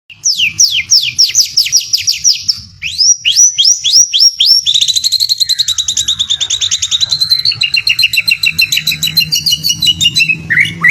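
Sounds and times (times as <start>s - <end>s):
songbird whistling and trilling: 0.1s - 10.9s.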